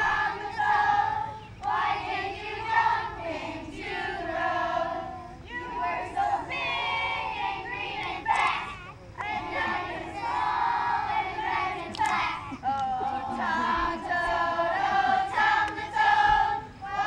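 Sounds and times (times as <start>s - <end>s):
girls singing in unison: 0.0s - 17.0s.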